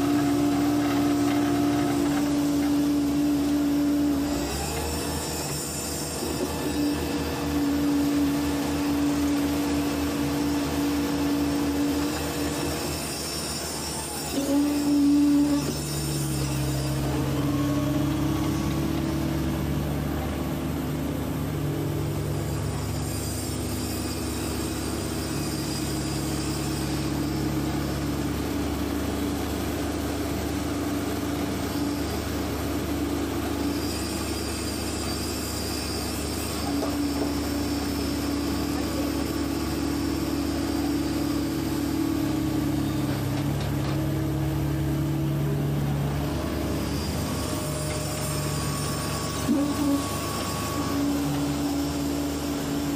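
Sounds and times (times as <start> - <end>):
excavator engine and hydraulics: 0.0 - 52.9.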